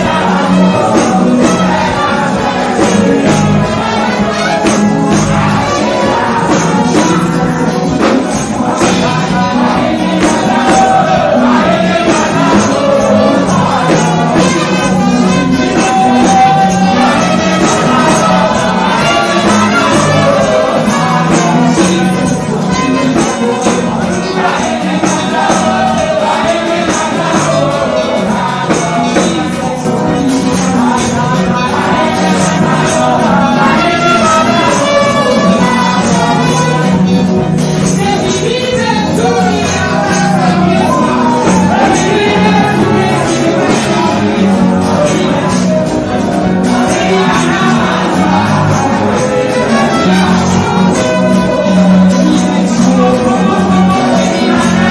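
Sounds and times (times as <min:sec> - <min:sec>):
band with percussion beat: 0:00.0 - 0:54.9
man singing: 0:00.0 - 0:54.9.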